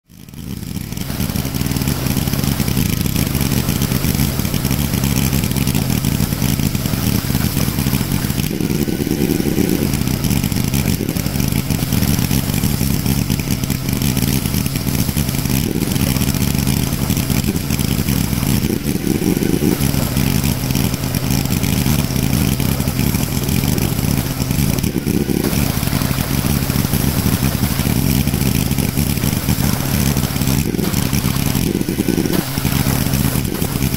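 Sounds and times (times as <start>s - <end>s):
garden tractor engine running: 0.0s - 33.9s.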